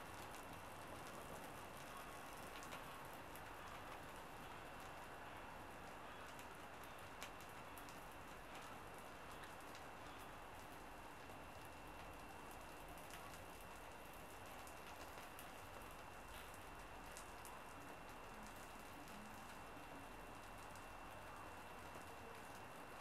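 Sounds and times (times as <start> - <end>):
small fire crackling: 0.0 - 23.0.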